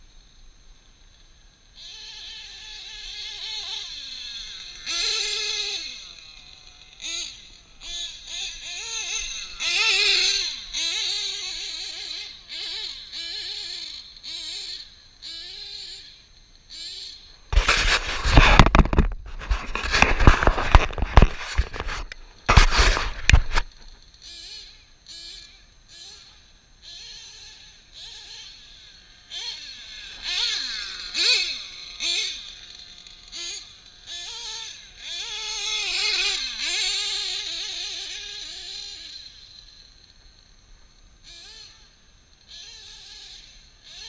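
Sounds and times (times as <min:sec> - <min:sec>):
distant model truck engine: 0:00.0 - 0:44.0.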